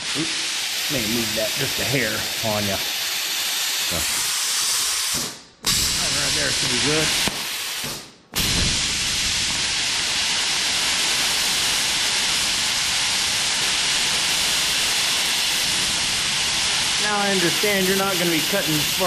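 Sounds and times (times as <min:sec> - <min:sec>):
plasma cutter hissing: 0:00.0 - 0:19.0.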